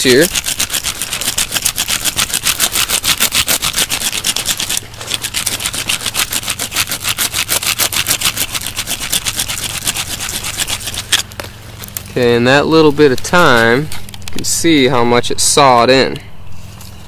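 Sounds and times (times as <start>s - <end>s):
jawbone rasping against tree trunk: 0.0s - 14.5s.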